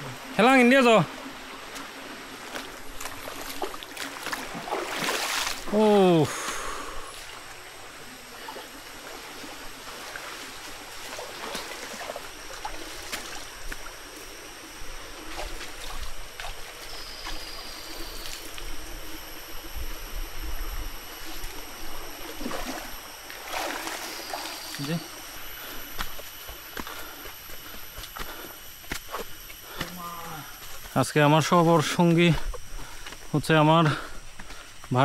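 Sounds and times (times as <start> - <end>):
stream running over rocks: 0.0 - 35.0.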